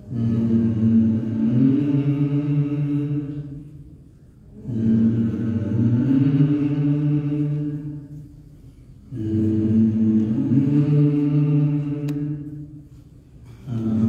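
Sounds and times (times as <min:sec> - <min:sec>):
liturgical chant singing: 0:00.0 - 0:03.9, 0:04.5 - 0:14.0.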